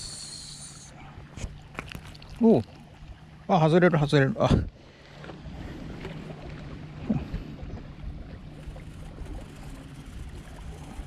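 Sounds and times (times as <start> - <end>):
low steady hum: 0.0 - 11.0
small waves lapping at shore: 0.0 - 11.0.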